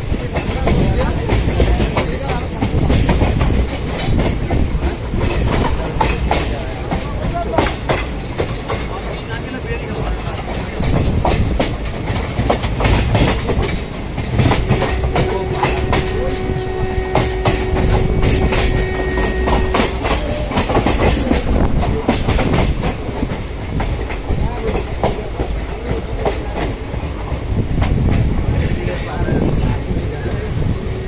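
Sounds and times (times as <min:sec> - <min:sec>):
train rumble: 0:00.0 - 0:31.0
train wheels clattering: 0:00.0 - 0:31.0.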